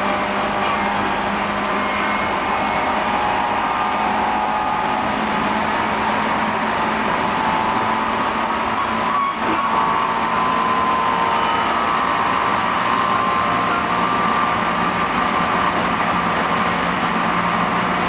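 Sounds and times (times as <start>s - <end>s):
traction motors whining: 0.0s - 18.0s
train rumble and rushing: 0.0s - 18.0s.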